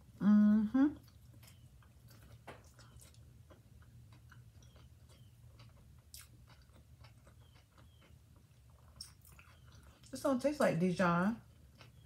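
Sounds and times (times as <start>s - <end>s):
faint chewing clicks and smacks: 0.9s - 10.8s, 11.4s - 12.0s.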